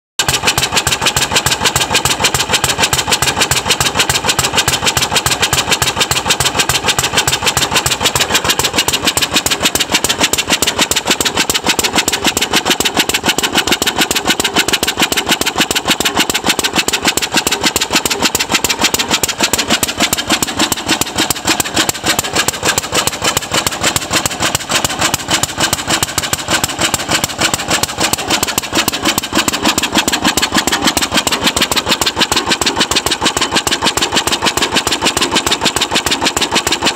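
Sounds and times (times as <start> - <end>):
stationary engine running: 0.2 - 36.9.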